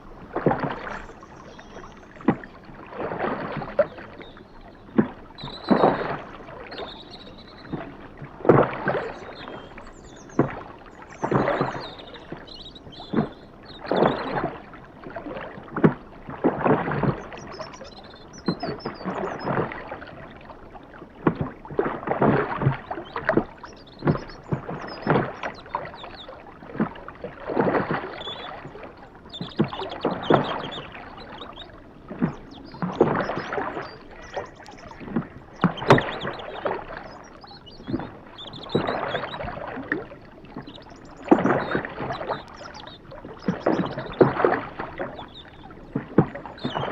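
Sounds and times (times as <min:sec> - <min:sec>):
oars splashing through water: 0:00.0 - 0:46.9.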